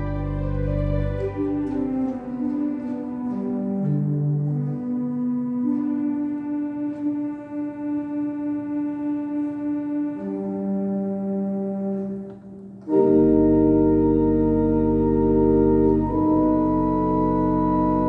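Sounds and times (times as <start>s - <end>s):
pipe organ chords: 0.0s - 18.0s.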